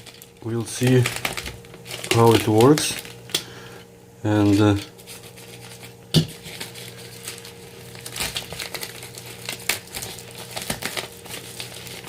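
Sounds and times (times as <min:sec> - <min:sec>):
packaging crinkling: 0:00.0 - 0:03.6, 0:04.3 - 0:12.0.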